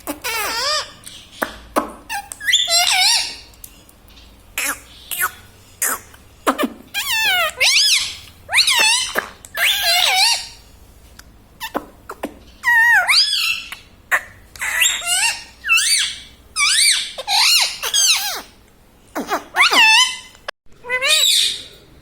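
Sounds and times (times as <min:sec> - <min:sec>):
parrot calling: 0:00.0 - 0:01.5, 0:02.1 - 0:10.6, 0:11.6 - 0:21.8.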